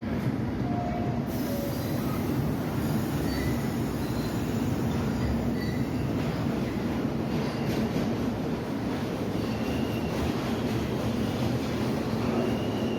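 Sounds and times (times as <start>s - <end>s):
subway train rumbling: 0.0s - 12.9s
wheels squealing on rails: 0.7s - 8.2s, 9.1s - 12.9s.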